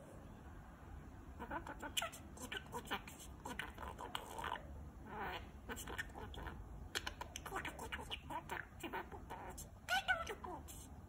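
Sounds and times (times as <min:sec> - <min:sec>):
budgerigar chirping softly: 0:01.4 - 0:11.0.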